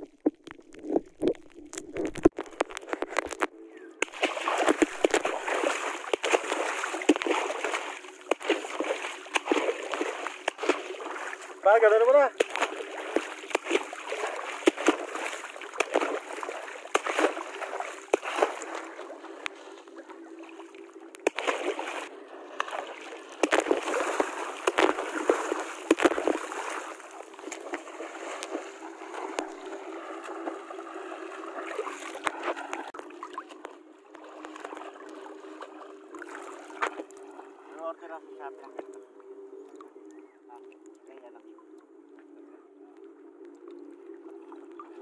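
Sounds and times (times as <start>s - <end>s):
water splashing and sloshing: 0.0s - 45.0s.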